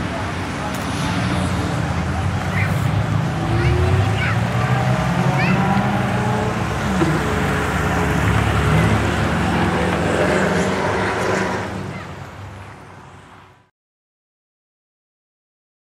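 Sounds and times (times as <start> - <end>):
road noise: 0.0 - 13.7.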